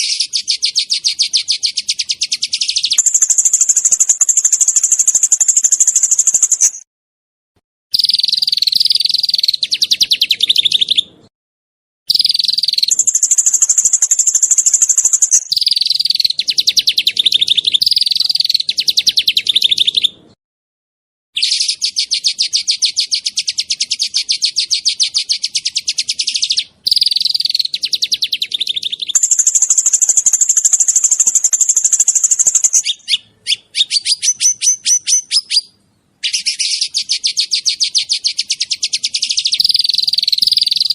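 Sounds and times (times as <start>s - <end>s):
songbird singing rapid high notes: 0.0s - 6.9s, 7.9s - 11.1s, 12.1s - 20.2s, 21.4s - 40.9s.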